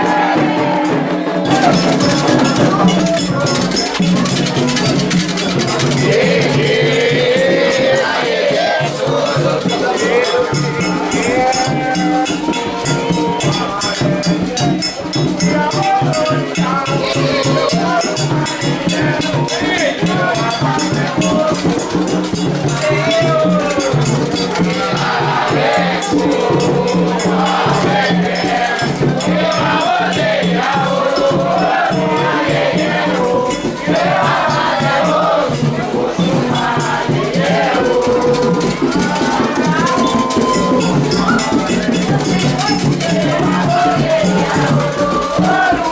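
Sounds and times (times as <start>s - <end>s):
drums and hand percussion: 0.0s - 45.9s
voices singing a chant: 0.0s - 45.9s
shaken rattle: 1.4s - 45.9s.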